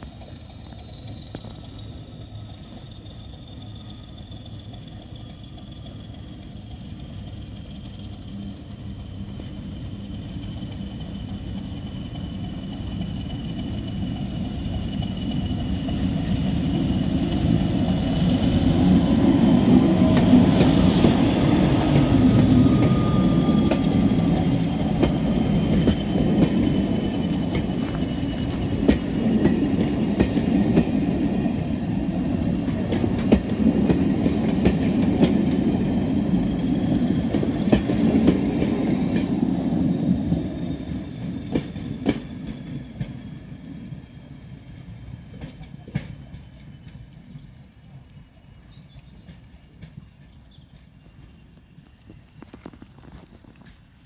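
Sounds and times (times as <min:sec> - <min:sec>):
train wheels clicking over rail joints: 0:00.0 - 0:48.0, 0:48.6 - 0:54.0
diesel locomotive rumble: 0:00.0 - 0:54.0.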